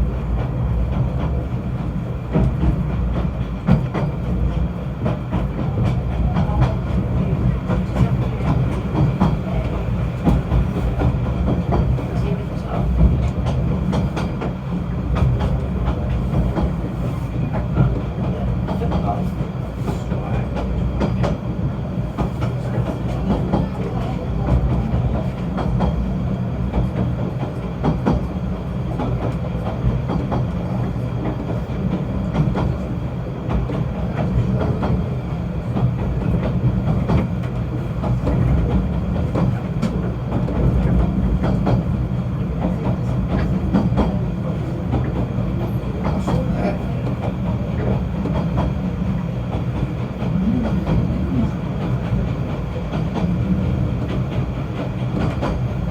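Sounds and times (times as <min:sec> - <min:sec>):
train low rumble: 0:00.0 - 0:55.9.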